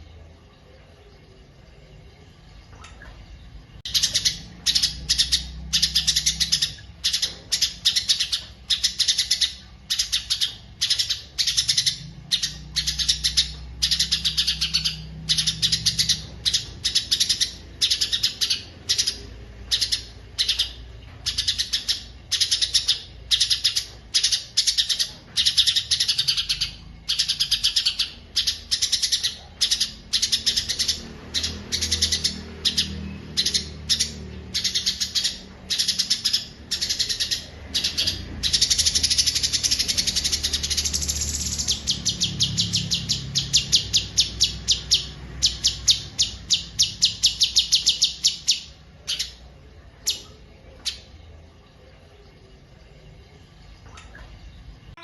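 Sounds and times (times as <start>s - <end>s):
songbird chattering song: 3.9s - 49.4s.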